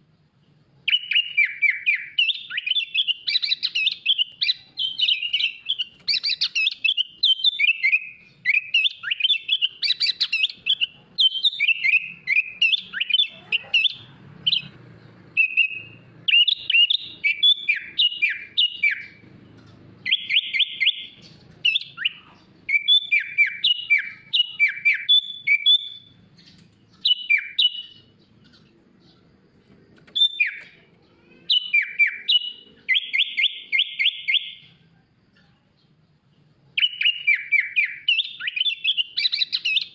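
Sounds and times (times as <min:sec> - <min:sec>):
bird singing chirps and whistles: 0:00.8 - 0:34.9, 0:36.7 - 0:39.9.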